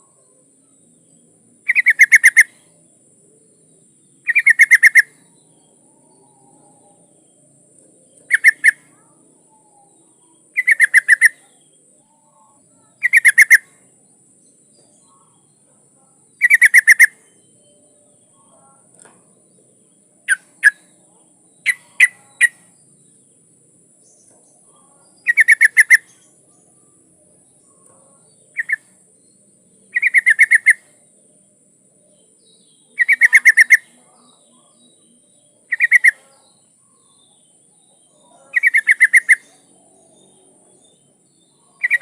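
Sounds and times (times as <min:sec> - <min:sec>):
bulbul chattering calls: 0:00.0 - 0:05.8, 0:08.0 - 0:13.8, 0:16.2 - 0:17.5, 0:18.2 - 0:23.4, 0:24.0 - 0:26.8, 0:27.6 - 0:31.2, 0:32.1 - 0:42.0.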